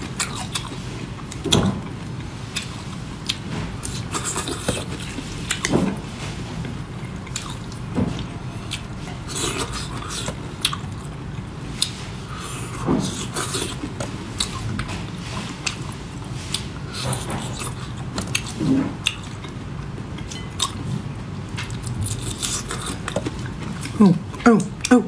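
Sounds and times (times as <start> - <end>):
wet chewing and mouth smacking: 0.0 - 5.7, 6.6 - 21.0, 21.6 - 25.0.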